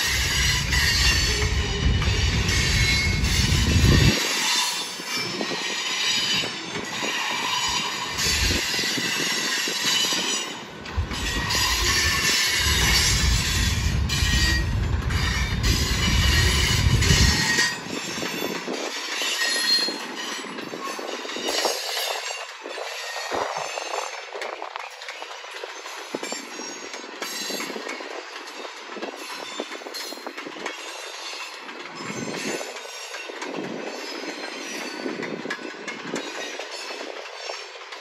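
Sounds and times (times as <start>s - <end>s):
high wheel squeal: 0.0s - 35.3s
freight train wheels rumbling: 0.0s - 38.0s.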